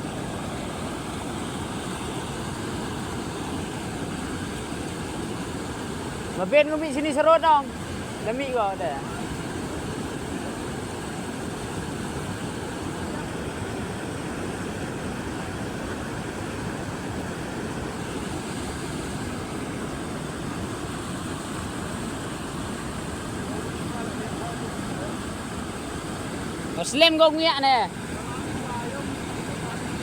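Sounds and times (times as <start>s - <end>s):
rushing water roar: 0.0s - 30.0s.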